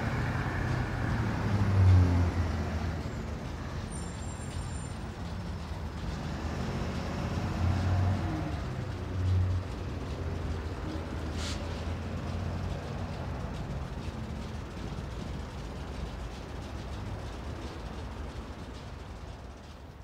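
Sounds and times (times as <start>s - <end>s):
diesel locomotive idling: 0.0s - 20.0s.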